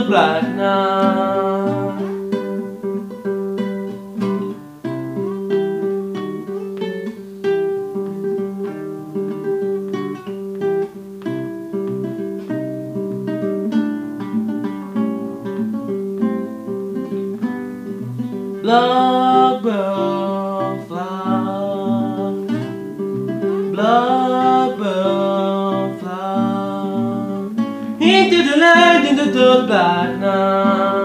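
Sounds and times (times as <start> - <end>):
fingerpicked acoustic guitar: 0.0 - 31.0.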